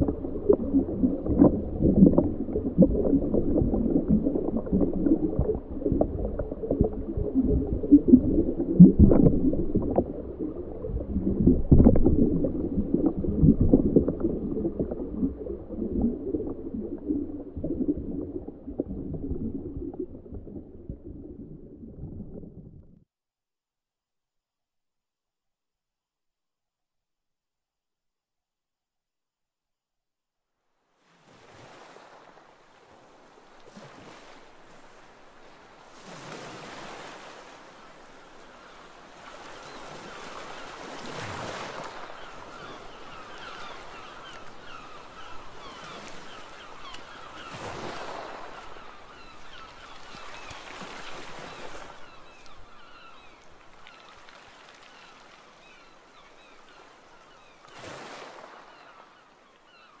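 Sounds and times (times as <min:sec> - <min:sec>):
sea waves washing in: 0:00.0 - 0:22.5, 0:31.0 - 0:59.1.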